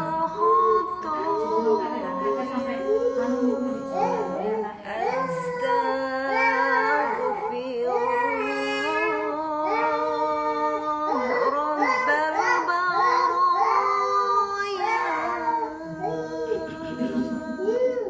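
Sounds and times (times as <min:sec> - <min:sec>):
child singing: 0:00.0 - 0:18.0.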